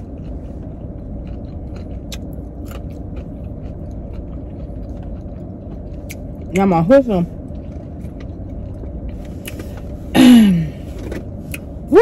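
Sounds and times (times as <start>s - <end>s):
chewing crunchy fried chicken: 0.0s - 10.0s.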